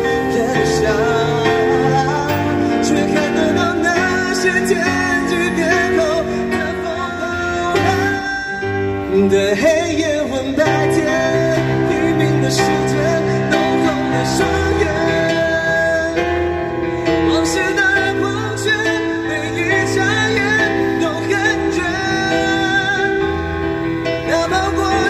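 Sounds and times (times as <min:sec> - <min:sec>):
electronic keyboard: 0:00.0 - 0:25.0
man singing into microphone: 0:00.0 - 0:25.0.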